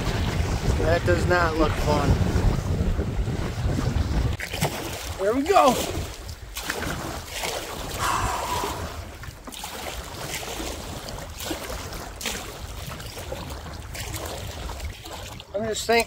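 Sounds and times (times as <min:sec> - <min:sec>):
lake water splashing against canoe: 0:00.0 - 0:16.0
wind buffeting microphone: 0:00.0 - 0:16.0.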